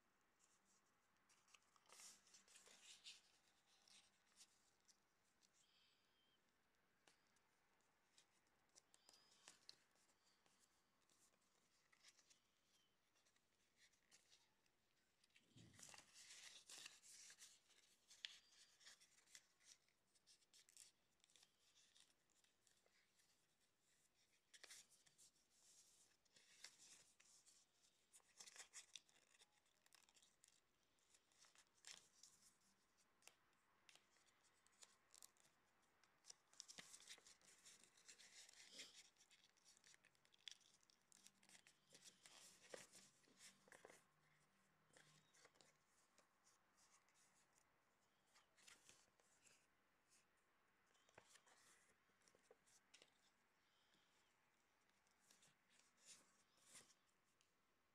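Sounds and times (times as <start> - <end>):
paper rustling and crinkling: 0.4 - 5.9, 8.1 - 57.6.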